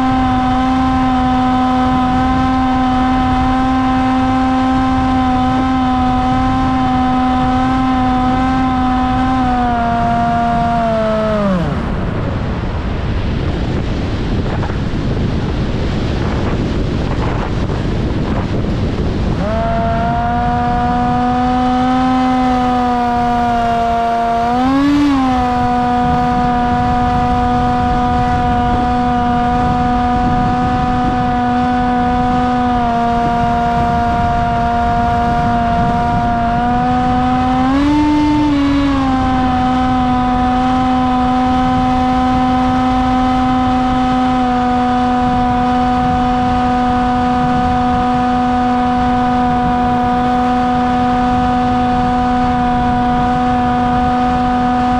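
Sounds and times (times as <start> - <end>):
model plane motor whining: 0.0 - 12.0, 16.4 - 54.9.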